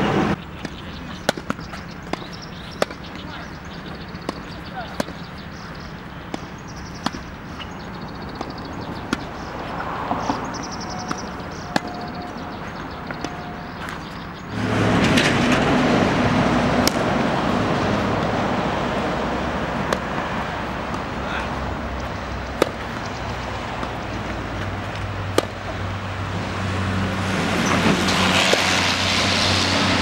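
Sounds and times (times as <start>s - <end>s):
tennis balls struck by rackets: 0.1s - 14.8s, 16.7s - 26.7s, 27.4s - 28.8s.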